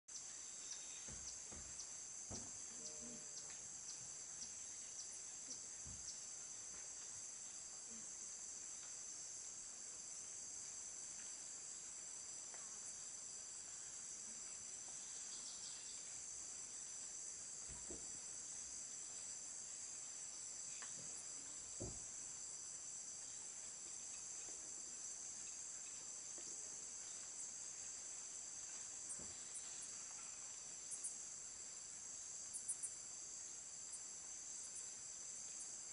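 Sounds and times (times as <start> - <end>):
insects droning chorus: 0.1 - 35.9.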